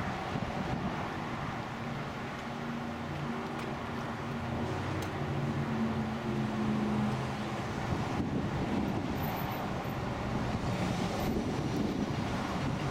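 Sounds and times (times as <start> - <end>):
heavy vehicle engine drone: 0.0 - 12.9
highway traffic rushing: 0.0 - 12.9.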